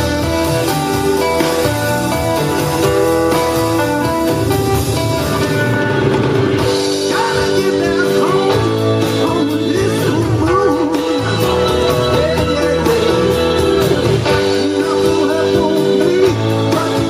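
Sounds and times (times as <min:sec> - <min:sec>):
blues band playing: 0:00.0 - 0:17.0
lead guitar: 0:00.0 - 0:17.0.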